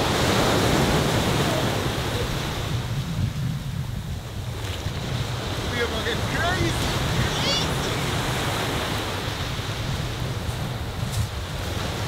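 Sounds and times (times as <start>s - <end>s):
sea waves washing in: 0.0s - 12.0s
wind buffeting microphone: 0.0s - 12.0s.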